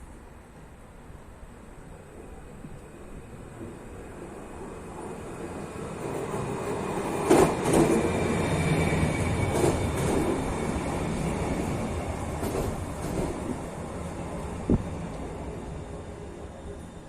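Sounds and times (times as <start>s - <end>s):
train running noise: 1.9s - 17.0s.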